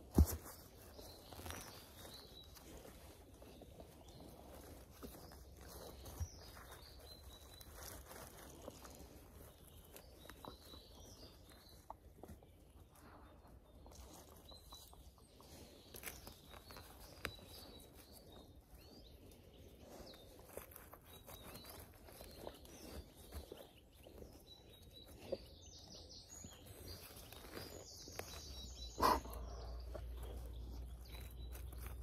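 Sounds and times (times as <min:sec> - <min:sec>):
leaf litter crackling and rustling: 0:00.0 - 0:11.8, 0:12.9 - 0:24.4, 0:26.2 - 0:28.8
birds chirping faintly: 0:00.0 - 0:32.0.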